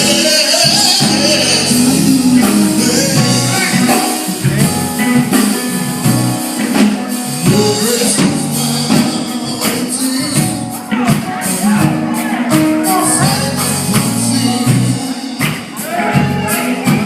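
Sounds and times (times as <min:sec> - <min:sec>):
band with guitar and drums: 0:00.0 - 0:17.0
voices singing gospel: 0:00.0 - 0:17.0.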